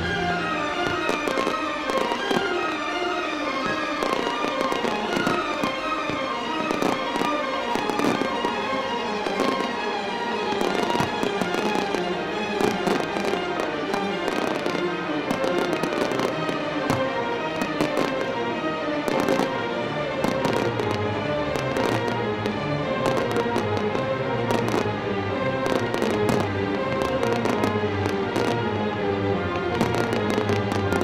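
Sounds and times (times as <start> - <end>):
fireworks bangs and crackling: 0.0 - 31.0
music with sustained tones: 0.0 - 31.0.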